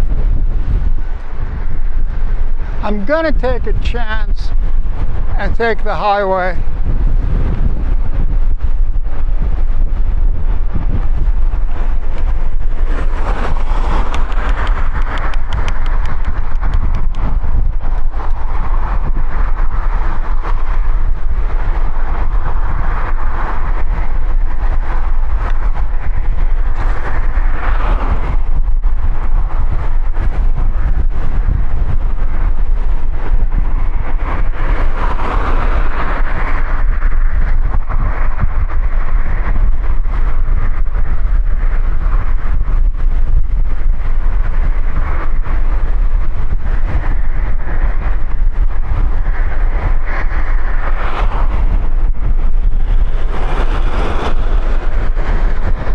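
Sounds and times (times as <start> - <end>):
passing highway traffic: 0.0 - 55.9
wind buffeting microphone: 0.0 - 55.9.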